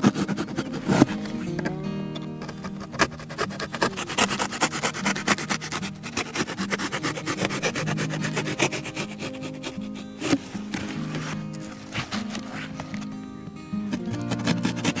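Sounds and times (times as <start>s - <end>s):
rapid scraping strokes: 0.0s - 1.7s, 2.4s - 13.2s, 13.9s - 15.0s
music of low held notes: 0.0s - 15.0s.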